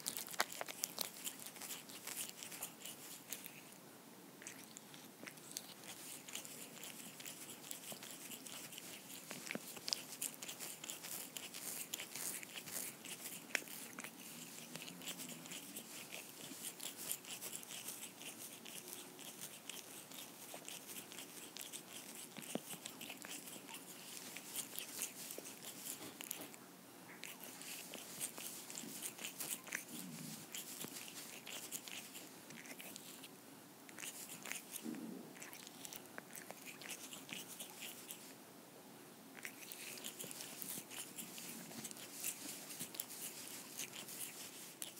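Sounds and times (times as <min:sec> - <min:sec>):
kitten licking tongue clicks: 0:00.0 - 0:03.8, 0:04.4 - 0:26.6, 0:27.2 - 0:33.3, 0:33.9 - 0:38.3, 0:39.4 - 0:44.9.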